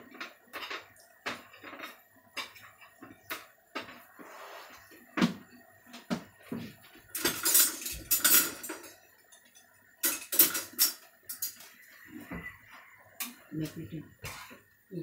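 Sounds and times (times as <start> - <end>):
dishes and utensils clattering: 0.0 - 4.1, 4.7 - 14.6.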